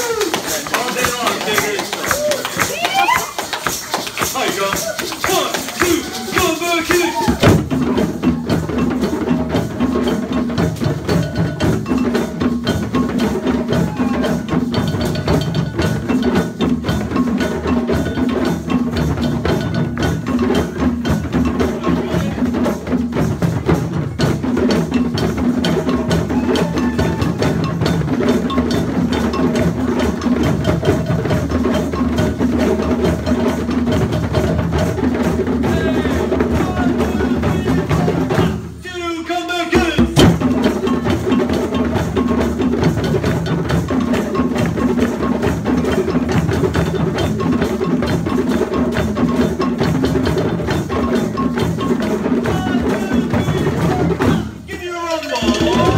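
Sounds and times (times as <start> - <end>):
djembe drums played by hand: 0.0 - 38.8, 39.7 - 54.7, 55.3 - 55.9.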